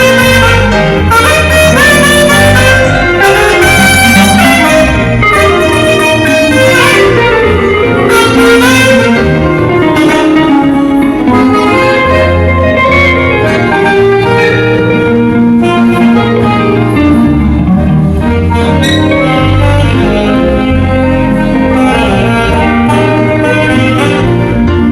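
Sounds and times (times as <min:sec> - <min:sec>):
saxophone melody with band: 0:00.0 - 0:24.9.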